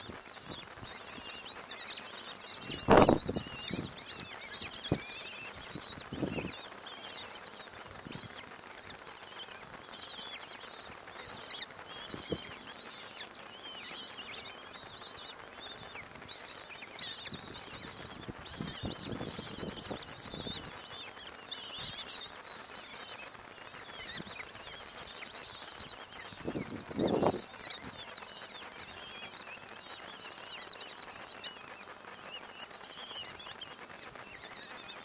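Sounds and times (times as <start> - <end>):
chicks begging calls: 0.0 - 35.0.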